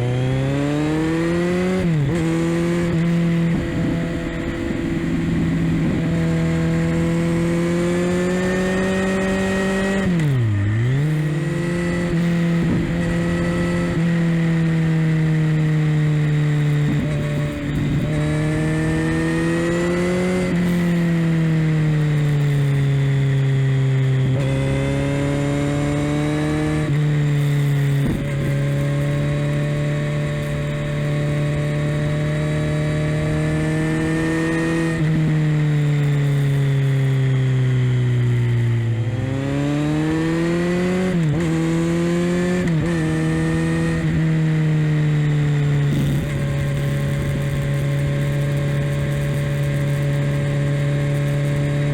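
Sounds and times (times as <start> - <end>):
motorcycle engine under way: 0.0 - 51.9.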